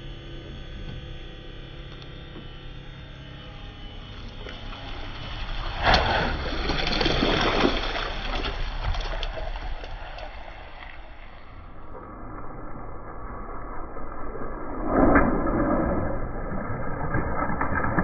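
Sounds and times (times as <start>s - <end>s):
water splashing: 2.8s - 18.0s.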